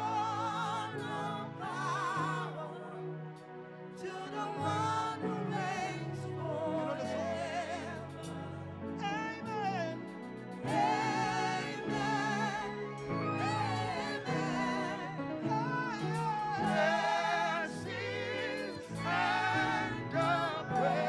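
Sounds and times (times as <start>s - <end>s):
sustained organ chords: 0.0s - 21.0s.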